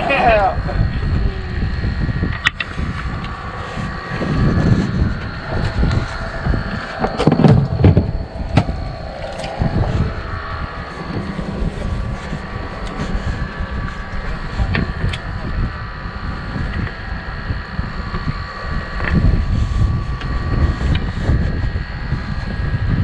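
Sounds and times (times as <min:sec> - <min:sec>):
boat low rumble: 0:00.0 - 0:23.0.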